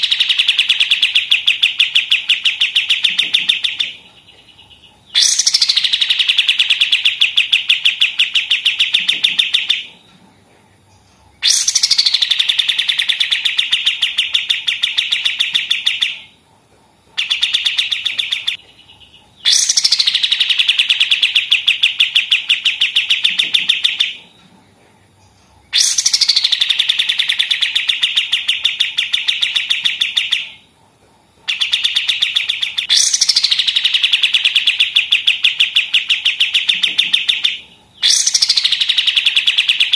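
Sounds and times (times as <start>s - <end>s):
bird singing rapid repeated notes: 0.0s - 10.1s, 10.7s - 24.4s, 25.1s - 39.9s.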